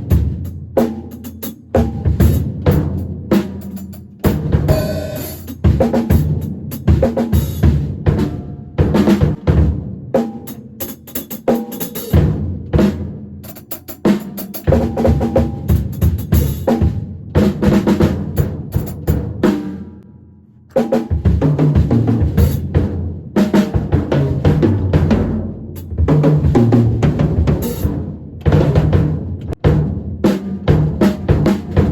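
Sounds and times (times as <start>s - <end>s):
drum kit playing: 0.0s - 20.0s, 20.7s - 31.9s.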